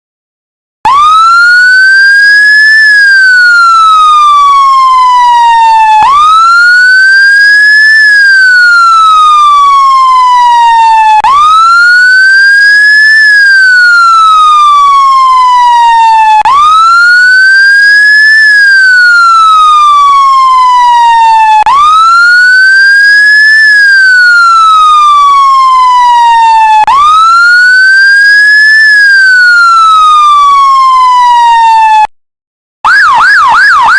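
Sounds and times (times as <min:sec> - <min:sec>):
emergency siren wailing: 0:00.8 - 0:32.1, 0:32.8 - 0:33.9.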